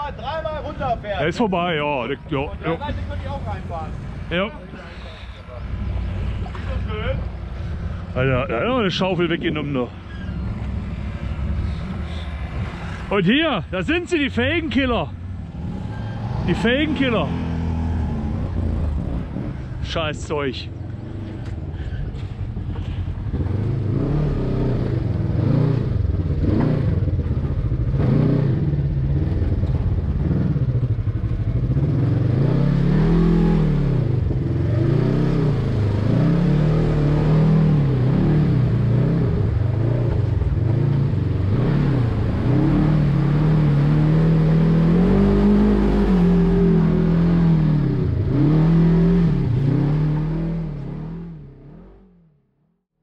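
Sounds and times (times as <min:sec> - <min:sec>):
buggy engine revving: 0:00.0 - 0:52.2.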